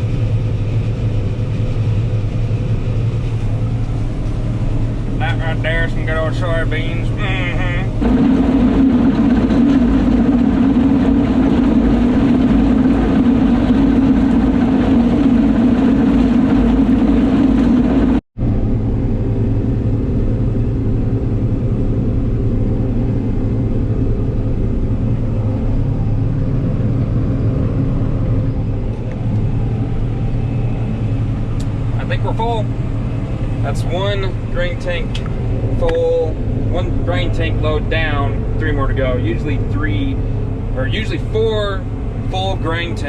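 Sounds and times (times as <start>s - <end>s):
combine harvester running: 0.0s - 43.0s.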